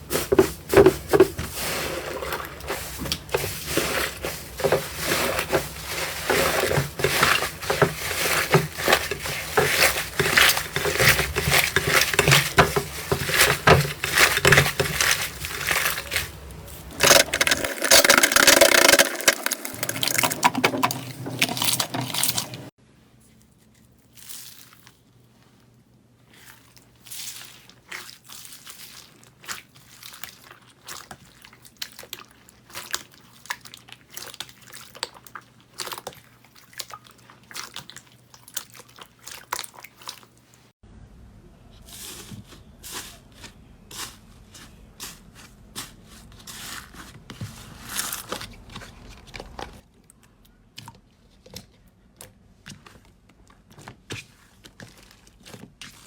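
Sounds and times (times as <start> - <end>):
slime squishing: 0.0 - 22.7, 26.2 - 40.7, 45.8 - 56.0.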